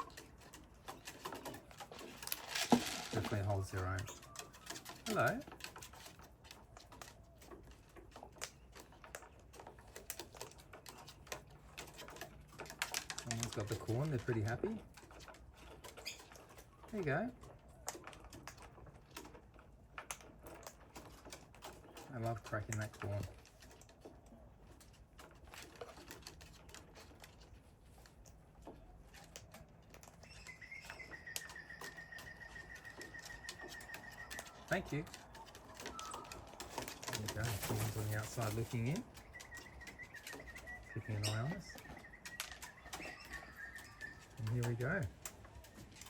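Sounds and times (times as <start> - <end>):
cockatoos cracking corn kernels: 0.0 - 46.0.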